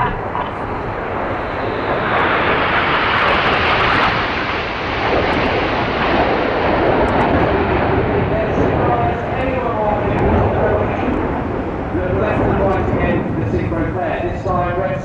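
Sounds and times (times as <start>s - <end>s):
jet engines passing over: 0.0s - 15.0s.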